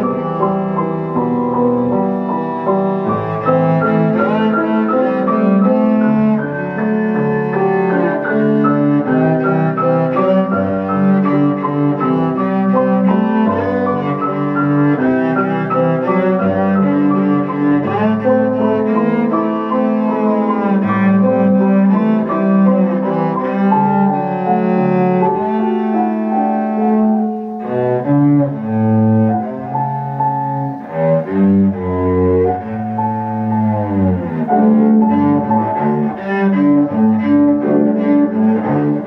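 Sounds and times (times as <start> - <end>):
bowed cello: 0.0 - 39.0
piano accompaniment: 0.0 - 39.0.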